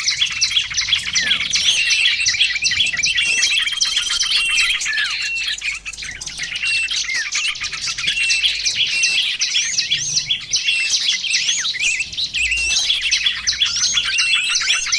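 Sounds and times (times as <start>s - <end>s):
songbirds chirping and trilling: 0.0s - 14.9s.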